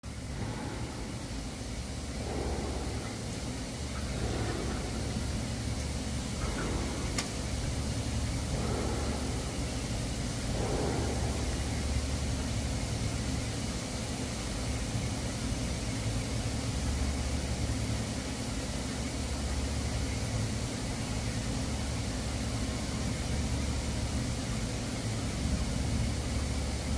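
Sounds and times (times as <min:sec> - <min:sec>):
low constant hum: 0:00.0 - 0:26.9.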